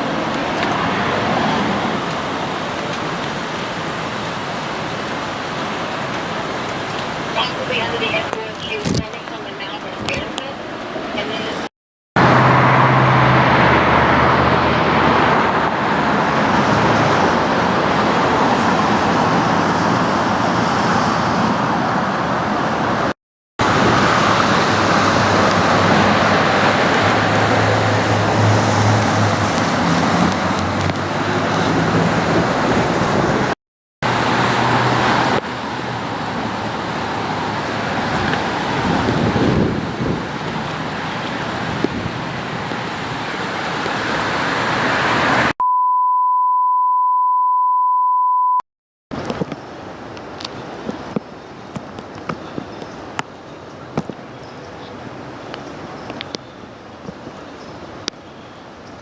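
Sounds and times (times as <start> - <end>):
road traffic passing: 0.0 - 45.6, 49.1 - 59.0.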